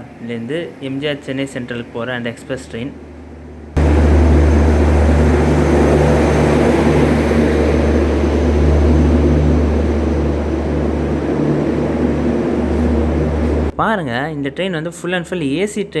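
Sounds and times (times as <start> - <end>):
train pulling in: 0.0 - 13.7.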